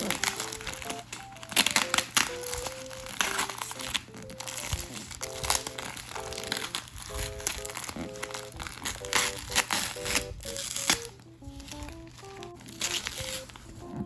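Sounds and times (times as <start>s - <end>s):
background music melody: 0.0s - 14.0s
packaging crinkling and rustling: 0.0s - 14.0s.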